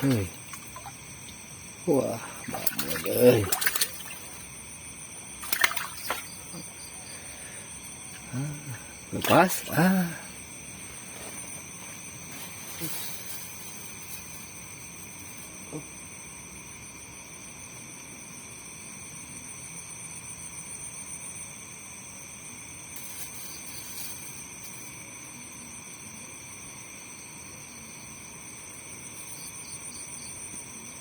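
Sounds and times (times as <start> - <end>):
crickets and insects trilling: 0.0 - 31.0.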